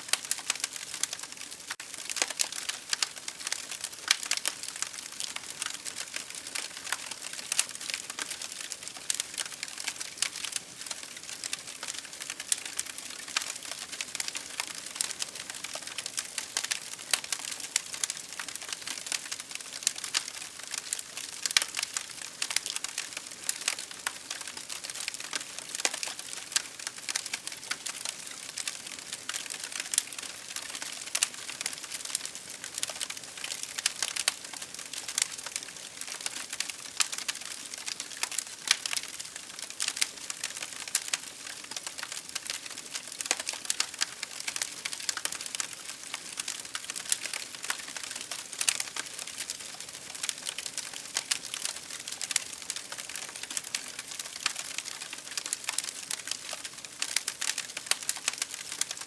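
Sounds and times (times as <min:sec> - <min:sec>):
campfire crackling: 0:00.1 - 0:59.0.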